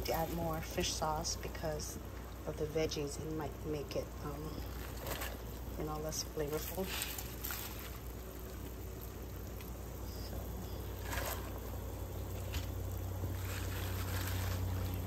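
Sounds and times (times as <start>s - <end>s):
pot humming and hissing: 0.0s - 15.0s.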